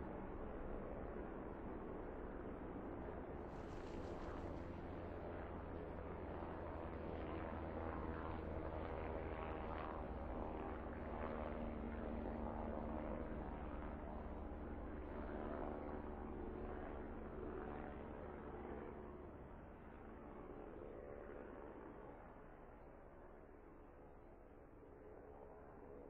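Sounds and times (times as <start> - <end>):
helicopters flying overhead: 0.0 - 26.0.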